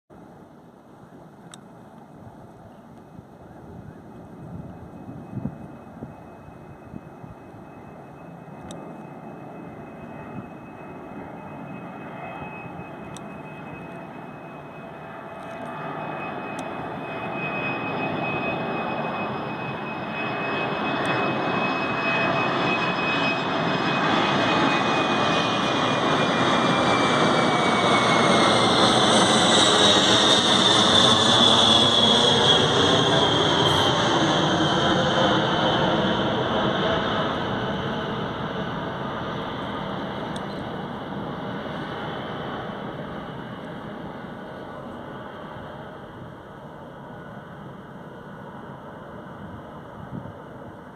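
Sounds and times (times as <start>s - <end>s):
jet engines roaring: 0.2s - 50.9s.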